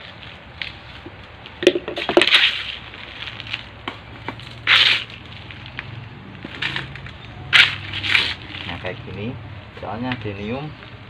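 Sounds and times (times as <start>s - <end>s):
potting mix crunching and rustling: 0.0s - 10.4s.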